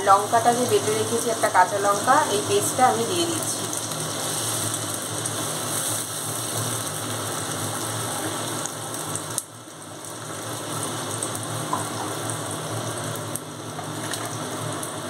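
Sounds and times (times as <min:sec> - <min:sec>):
paste sizzling in hot oil: 0:00.2 - 0:13.2.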